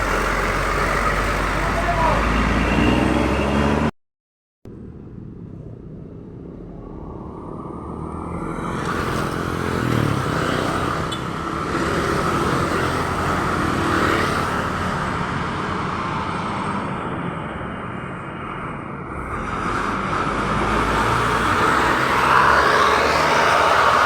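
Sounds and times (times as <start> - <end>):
vehicle engine and tyre noise: 0.0 - 3.9, 4.7 - 24.0.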